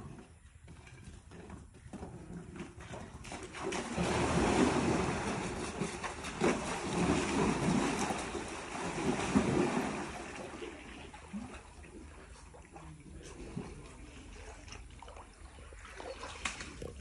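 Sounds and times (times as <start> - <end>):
water splashing and sloshing: 2.5 - 17.0.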